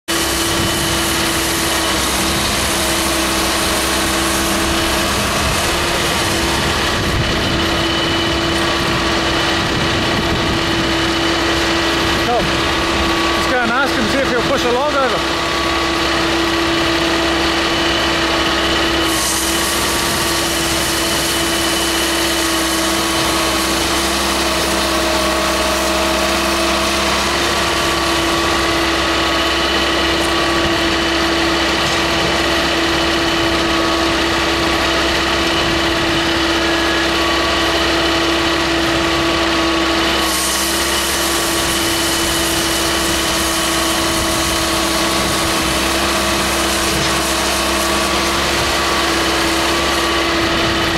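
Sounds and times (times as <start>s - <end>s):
firewood processor engine hum: 0.0s - 50.9s.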